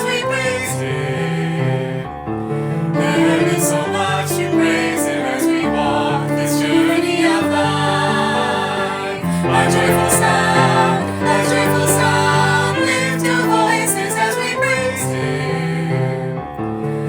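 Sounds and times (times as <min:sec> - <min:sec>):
christian song with accompaniment: 0:00.0 - 0:17.0.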